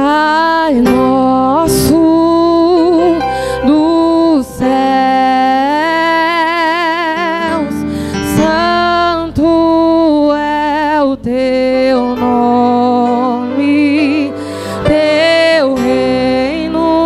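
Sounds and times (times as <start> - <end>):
woman singing gospel song: 0.0 - 17.0
electric bass guitar: 0.7 - 17.0.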